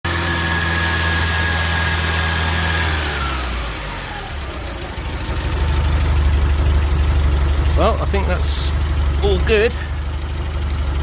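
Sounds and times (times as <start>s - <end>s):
car engine running: 0.1s - 11.0s.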